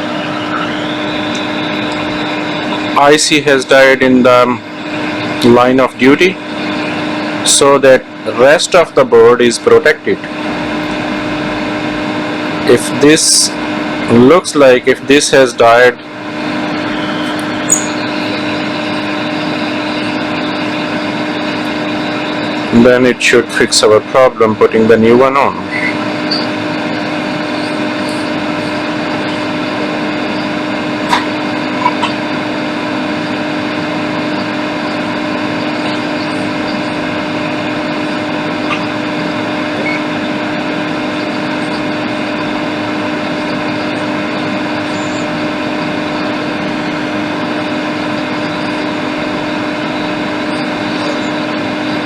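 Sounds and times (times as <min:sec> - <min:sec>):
hot air station blowing: 0:00.0 - 0:52.0.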